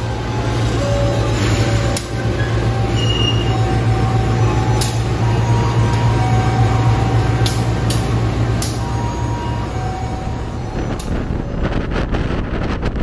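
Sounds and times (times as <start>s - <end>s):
train car rumbling: 0.0s - 13.0s.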